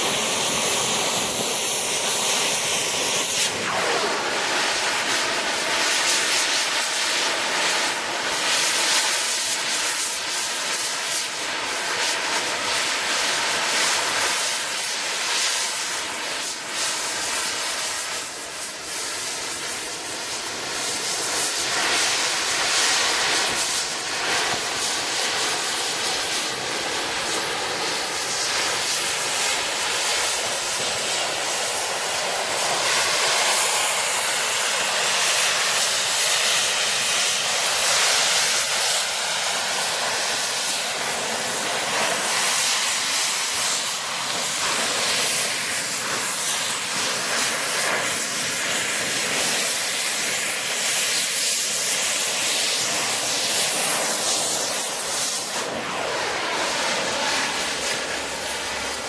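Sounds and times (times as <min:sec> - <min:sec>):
cutting torch flame hissing: 0:00.0 - 0:59.0.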